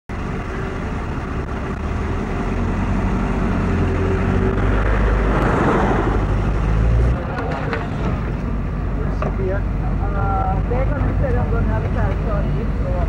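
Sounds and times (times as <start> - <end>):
low engine rumble: 0.1 - 13.0.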